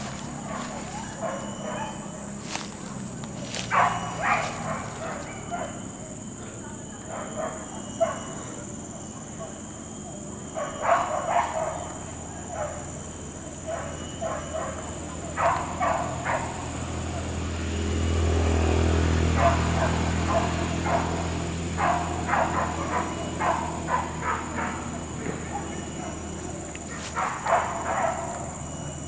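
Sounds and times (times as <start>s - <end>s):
dogs yelping and barking: 0.0s - 29.0s
insect drone: 0.0s - 29.0s.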